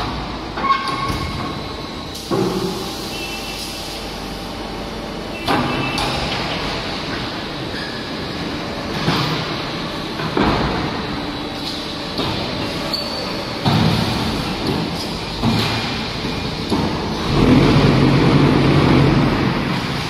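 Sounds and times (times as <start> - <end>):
block making machine running: 0.0 - 20.0.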